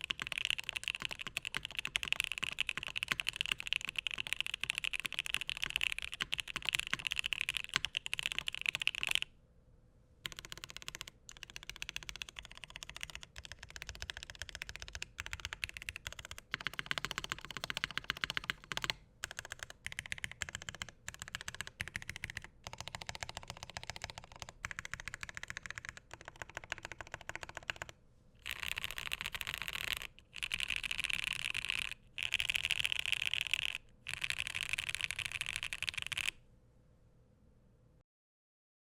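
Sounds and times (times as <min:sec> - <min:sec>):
fast typing on keyboard: 0:00.0 - 0:09.3, 0:10.2 - 0:36.4.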